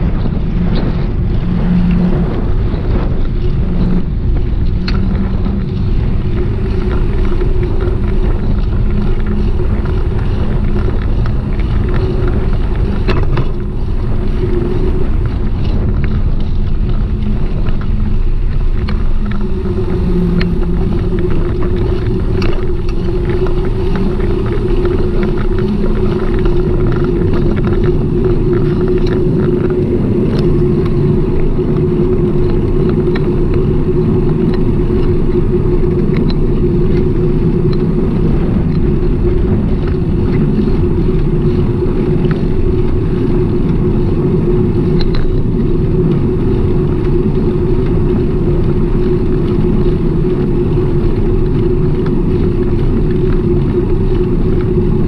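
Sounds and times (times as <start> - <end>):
bicycle road rumble: 0.0 - 55.0
sharp clicks and rattles: 0.0 - 55.0.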